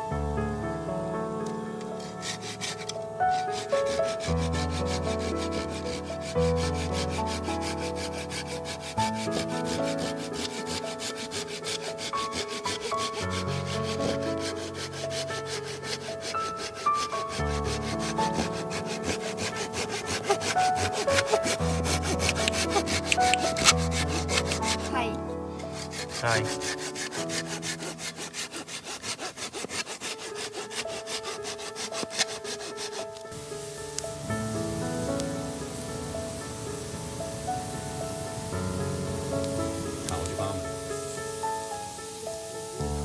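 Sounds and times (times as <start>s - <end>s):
slow melodic background music: 0.0s - 29.0s, 33.1s - 43.0s
hand saw cutting log: 2.0s - 34.3s, 39.0s - 42.2s.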